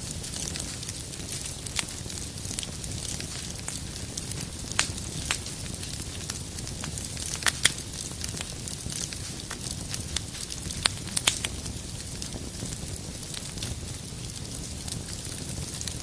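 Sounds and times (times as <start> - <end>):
fire popping: 0.0 - 16.0
flames rumbling: 0.0 - 16.0.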